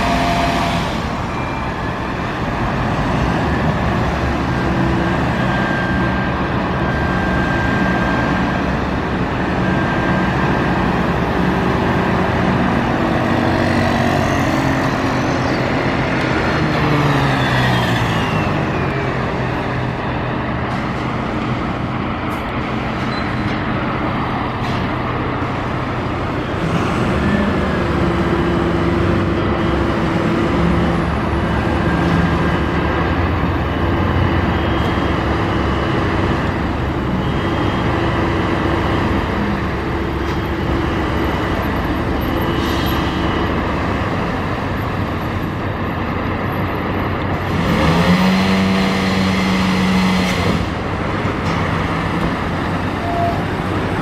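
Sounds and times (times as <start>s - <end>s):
fire truck engine running: 0.0s - 54.0s.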